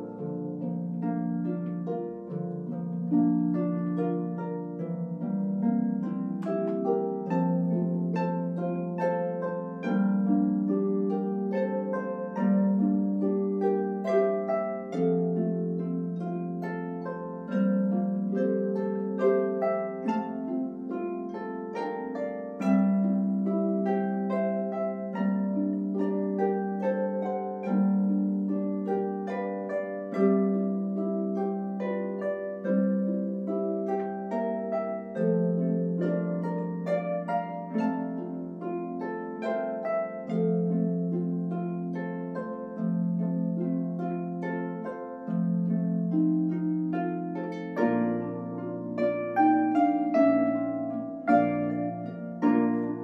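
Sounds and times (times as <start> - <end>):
harps playing a hymn: 0.0 - 53.0.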